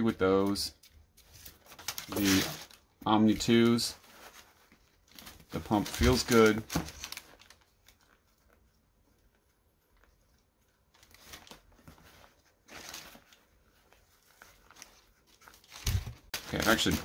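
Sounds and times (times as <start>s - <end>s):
rustling tissue paper: 0.4s - 17.0s.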